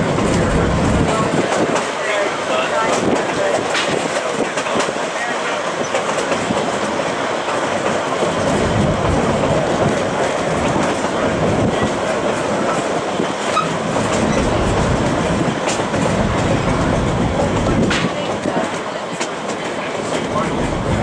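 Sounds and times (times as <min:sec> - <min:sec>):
train wheels rumbling and clattering: 0:00.0 - 0:21.0.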